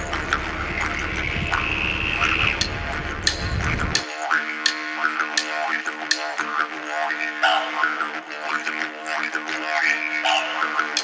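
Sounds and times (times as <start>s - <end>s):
didgeridoo drone: 0.0s - 11.0s.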